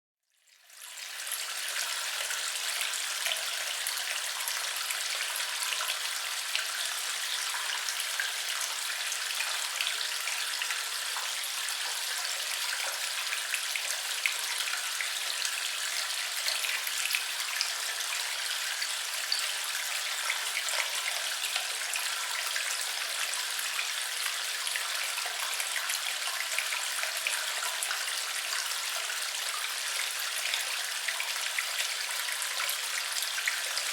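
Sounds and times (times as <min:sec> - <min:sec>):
water trickling and splashing: 0:00.5 - 0:33.9.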